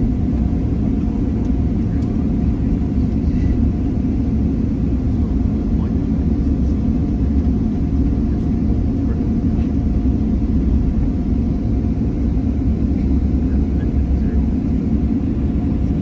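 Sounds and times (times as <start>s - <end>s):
jet engine and rolling rumble: 0.0s - 16.0s.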